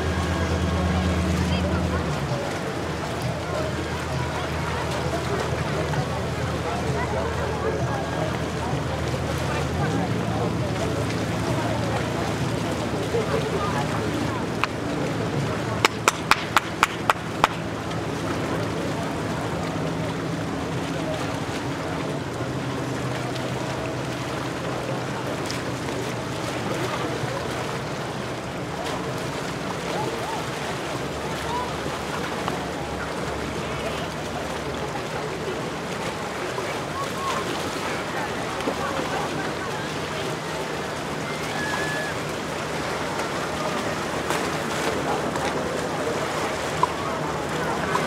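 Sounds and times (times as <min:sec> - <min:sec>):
boat engine hum: 0:00.0 - 0:48.0
distant voices: 0:00.0 - 0:48.0
water wash: 0:00.0 - 0:48.0
wind: 0:00.0 - 0:48.0.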